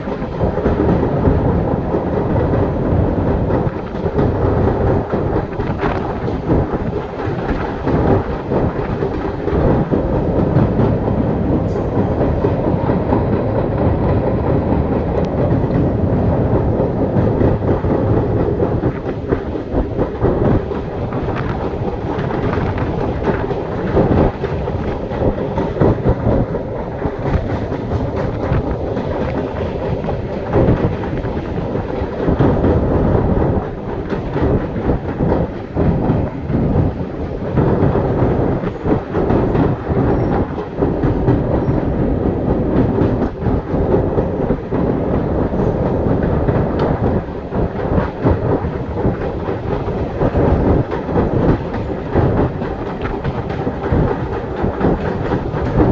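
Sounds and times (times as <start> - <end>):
train rumbling on rails: 0.0 - 55.9
wheels clattering over rail joints: 0.0 - 55.9.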